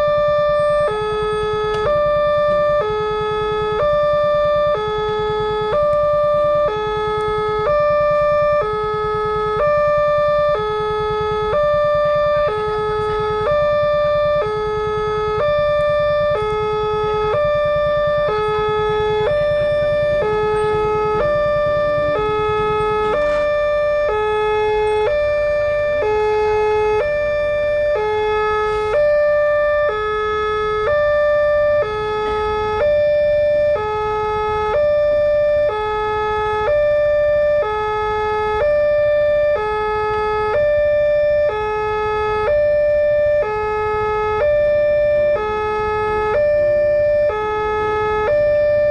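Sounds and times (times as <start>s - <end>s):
two-tone electronic warning alarm: 0.0s - 48.9s.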